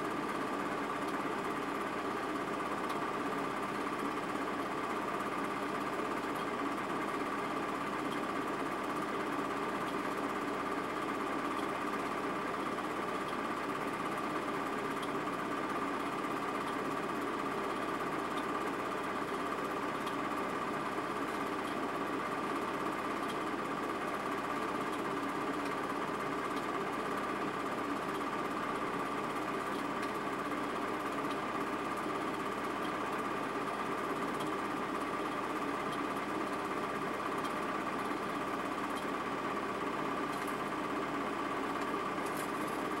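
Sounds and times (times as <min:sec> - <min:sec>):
film projector whirring: 0:00.0 - 0:43.0.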